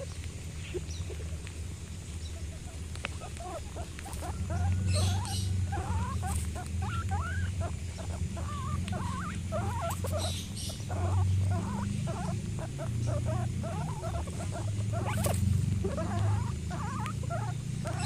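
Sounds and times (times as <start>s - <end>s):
guinea pigs squeaking: 0.0s - 1.3s, 2.2s - 18.0s
pellets being chewed: 0.0s - 18.0s
steady low rumble: 0.0s - 18.0s.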